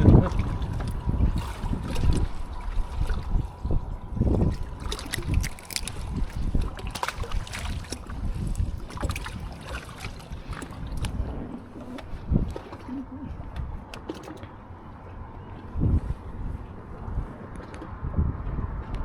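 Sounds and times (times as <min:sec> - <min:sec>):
water lapping at hull: 0:00.0 - 0:19.0
wind gusting on microphone: 0:00.0 - 0:19.0.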